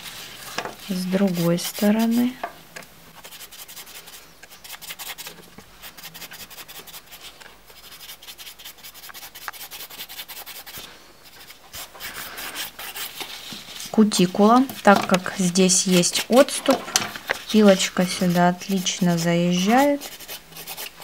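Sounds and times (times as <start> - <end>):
nail file rubbing on nail: 0.9 - 2.3, 3.2 - 16.8, 17.4 - 21.0.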